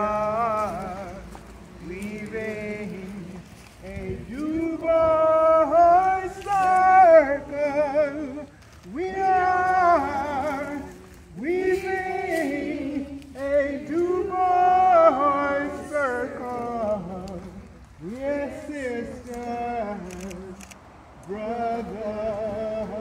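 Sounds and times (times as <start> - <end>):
group singing a slow chant: 1.8 - 20.6, 21.2 - 23.0.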